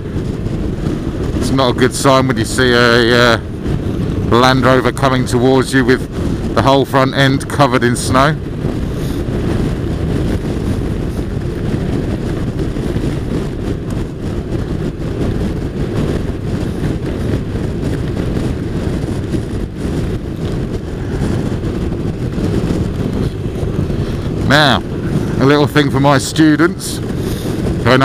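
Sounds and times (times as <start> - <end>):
motorcycle engine and road noise: 0.0 - 28.0
wind rush on microphone: 0.0 - 28.0.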